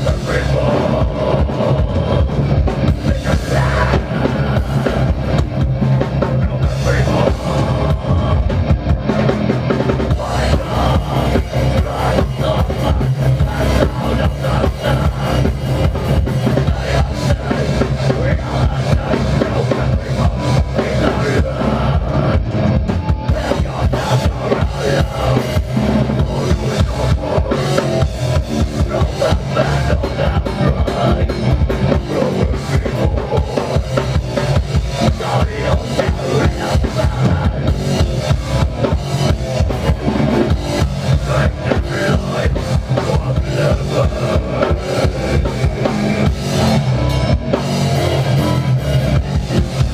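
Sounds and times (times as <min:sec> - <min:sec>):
metal band playing: 0:00.0 - 0:49.9
rapid bass drum and snare: 0:00.0 - 0:49.9.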